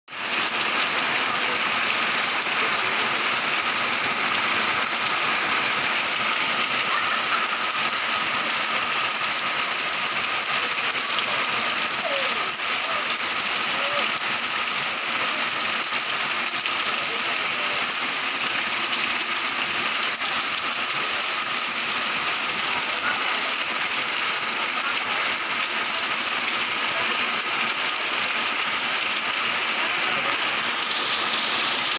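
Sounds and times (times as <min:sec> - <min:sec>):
heavy rain pouring: 0:00.1 - 0:31.9.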